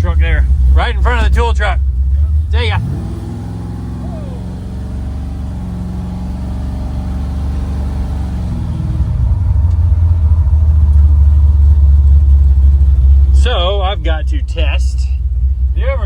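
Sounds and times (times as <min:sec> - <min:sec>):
pickup truck engine accelerating: 0:00.0 - 0:16.0.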